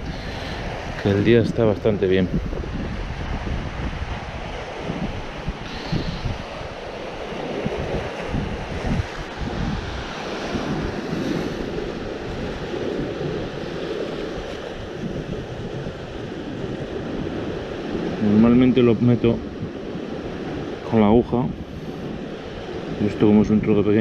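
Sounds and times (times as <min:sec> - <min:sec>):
sea waves washing on shore: 0:00.0 - 0:24.0
wind buffeting microphone: 0:00.0 - 0:24.0.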